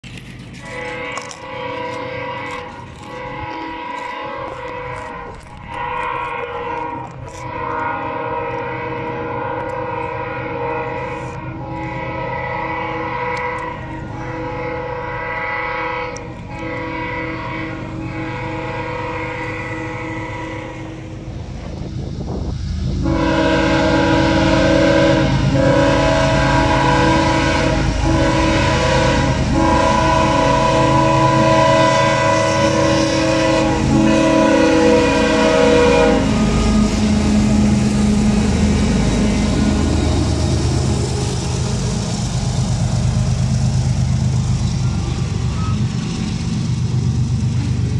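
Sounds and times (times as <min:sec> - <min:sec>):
train engines and wheels rumbling: 0:00.0 - 0:47.9
locomotive air horn: 0:00.6 - 0:21.4, 0:23.0 - 0:41.2.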